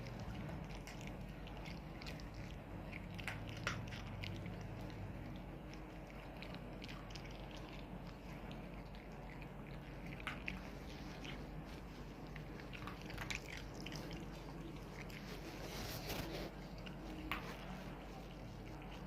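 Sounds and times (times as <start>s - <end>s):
dog chewing crunchy food: 0.0s - 19.0s.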